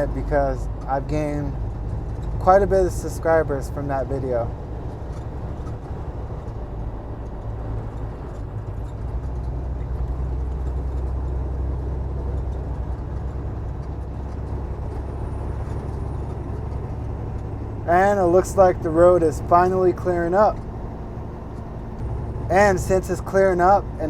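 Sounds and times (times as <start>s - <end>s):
truck diesel engine droning: 0.0s - 24.0s
tyre and road noise: 0.0s - 24.0s.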